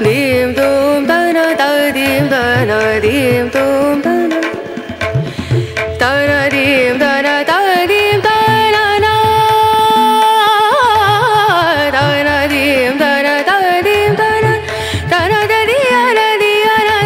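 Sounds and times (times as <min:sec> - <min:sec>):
sung indian classical melody: 0:00.0 - 0:17.0.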